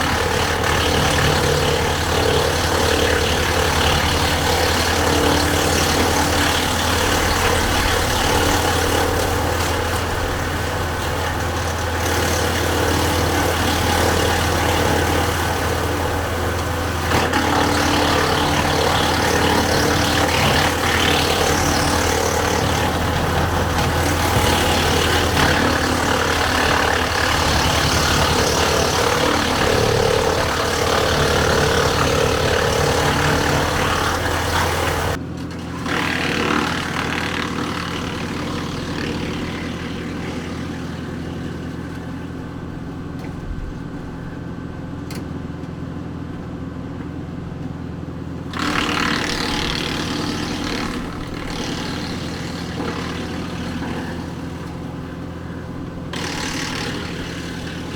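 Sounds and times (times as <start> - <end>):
diesel tractor engine humming: 0.0 - 35.9, 37.8 - 57.9
wood chipper running: 0.0 - 57.9.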